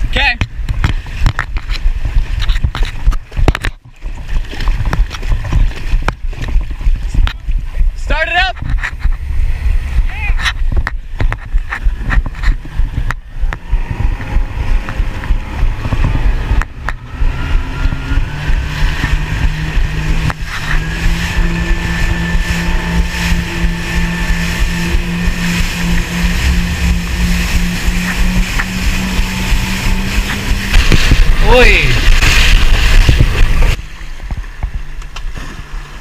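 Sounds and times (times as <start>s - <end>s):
jet ski engine: 0.0s - 36.0s
wind buffeting microphone: 0.0s - 36.0s.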